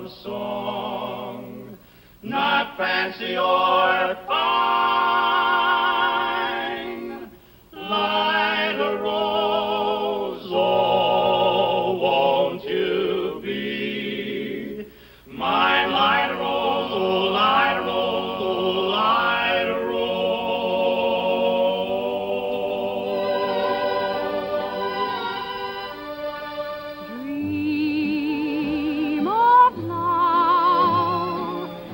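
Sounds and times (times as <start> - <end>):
barbershop quartet singing: 0.0 - 31.9.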